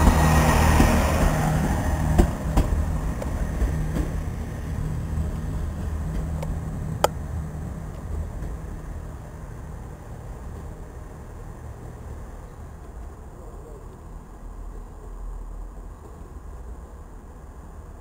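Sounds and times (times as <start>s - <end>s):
train diesel engines droning: 0.0s - 18.0s.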